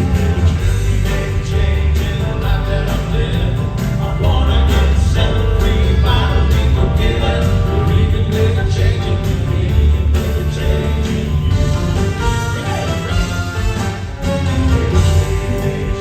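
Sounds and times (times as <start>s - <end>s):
male vocal quartet singing gospel: 0.0s - 13.8s, 14.7s - 16.0s
heavy bass: 0.0s - 16.0s
steady drums: 0.0s - 16.0s.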